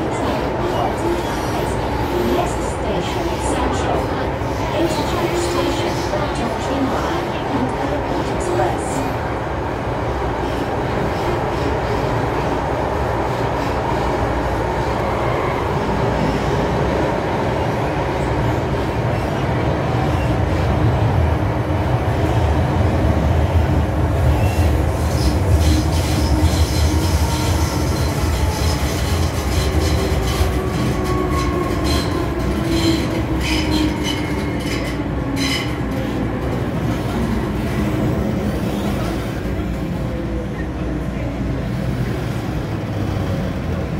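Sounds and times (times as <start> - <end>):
metro train rumbling: 0.0 - 43.9.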